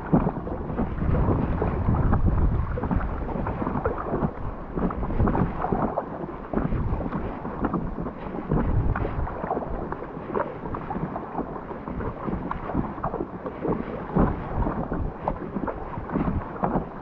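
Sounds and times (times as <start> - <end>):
water splashing against kayak: 0.0 - 17.0
wind buffeting microphone: 0.0 - 17.0.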